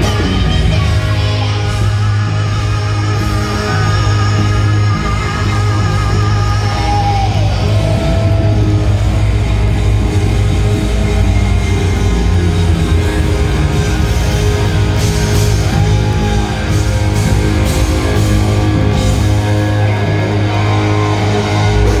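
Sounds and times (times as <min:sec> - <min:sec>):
hard rock band playing: 0:00.0 - 0:22.0.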